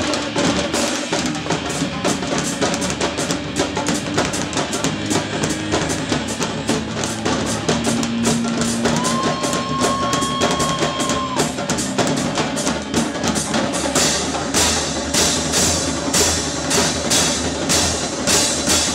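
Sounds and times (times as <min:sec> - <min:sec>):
marching drumline playing: 0:00.0 - 0:18.9.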